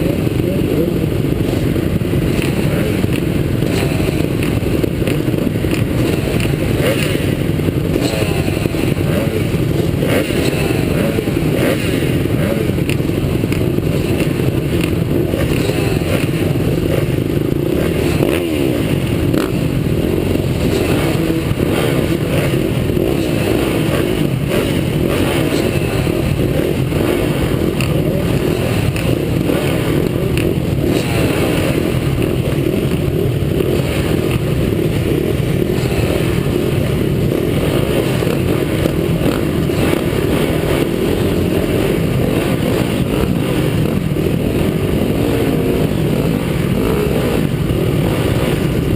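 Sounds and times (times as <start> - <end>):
motocross bike engines revving: 0.0 - 48.9.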